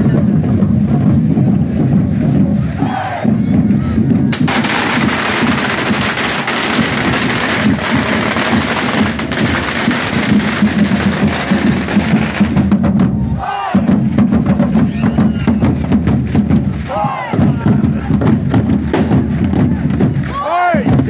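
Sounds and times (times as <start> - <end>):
marching drum band: 0.0 - 21.0.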